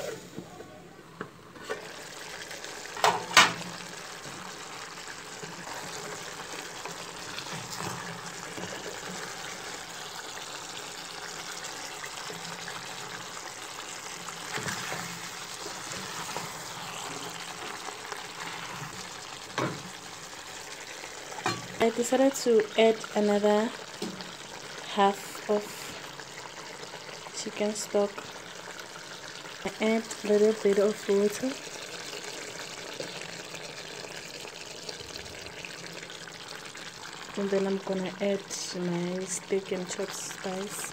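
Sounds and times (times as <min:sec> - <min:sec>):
stew bubbling in a pot: 0:01.1 - 0:40.9.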